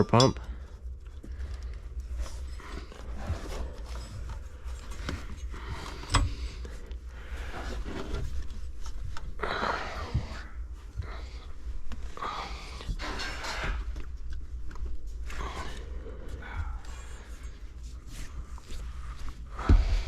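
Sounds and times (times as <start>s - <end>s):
rubber belt rubbing and scraping: 0.7s - 20.0s.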